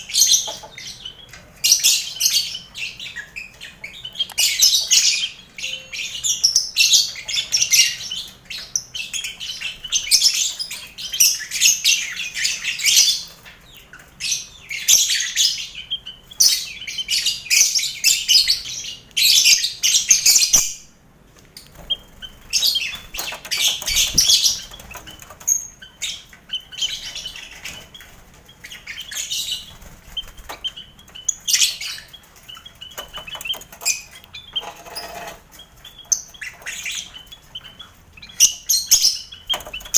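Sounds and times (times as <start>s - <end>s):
lovebirds chattering and chirping: 0.0s - 39.9s.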